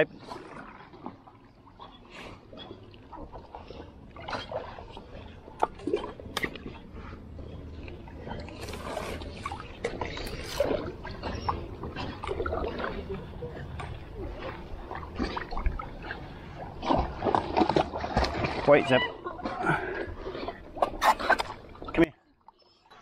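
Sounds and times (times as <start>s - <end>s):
river water sloshing: 0.0s - 22.2s.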